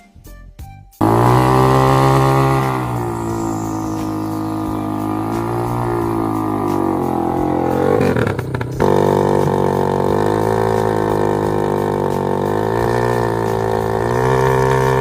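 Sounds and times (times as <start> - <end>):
dirt bike engine running: 1.0 - 15.0.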